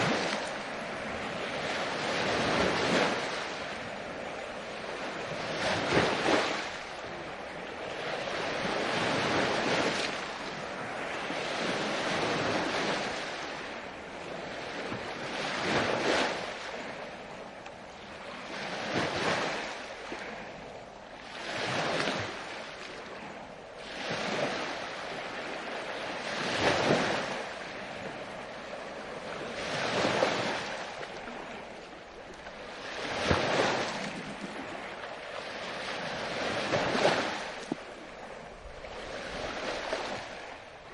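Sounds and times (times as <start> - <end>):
sea waves washing in: 0.0 - 40.9.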